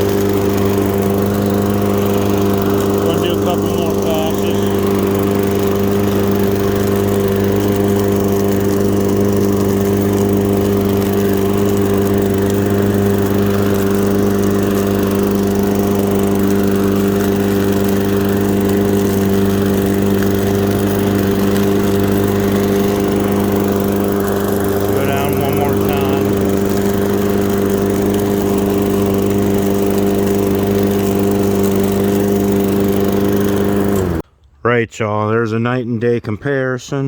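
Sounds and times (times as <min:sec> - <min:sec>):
lawn mower engine running: 0:00.0 - 0:34.3.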